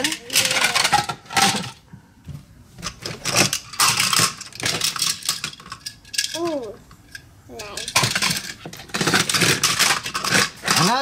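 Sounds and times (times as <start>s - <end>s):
toy trains clattering in plastic tub: 0.0s - 1.8s, 2.8s - 6.8s, 7.6s - 11.0s.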